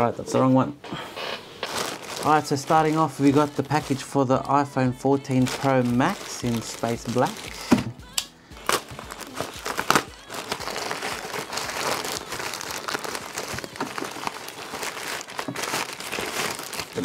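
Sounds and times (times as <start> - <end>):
plastic bag crinkling: 1.5 - 7.8, 8.6 - 17.0
plastic bag tearing: 1.5 - 7.8, 8.6 - 17.0.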